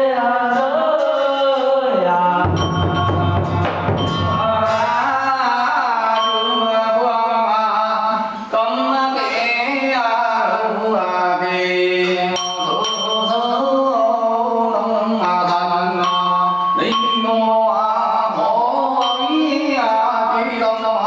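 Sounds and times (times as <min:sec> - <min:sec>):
person chanting: 0:00.0 - 0:21.0.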